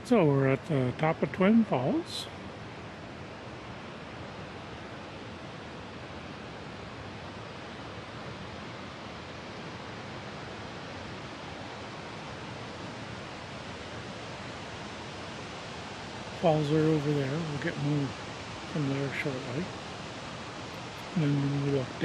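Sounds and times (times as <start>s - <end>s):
waterfall rushing: 3.4s - 22.0s.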